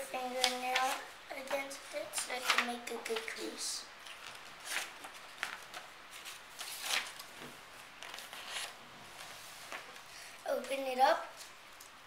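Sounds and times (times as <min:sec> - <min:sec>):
paper being folded: 0:00.2 - 0:10.1.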